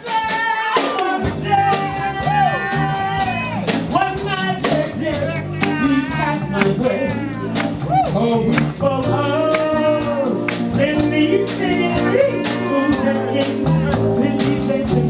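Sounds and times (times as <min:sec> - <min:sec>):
jazz band playing: 0:00.0 - 0:15.0
person singing: 0:00.0 - 0:15.0.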